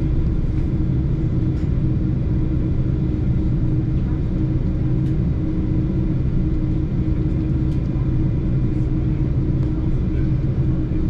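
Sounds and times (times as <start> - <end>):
airliner cabin rumble and hum: 0.0 - 11.0.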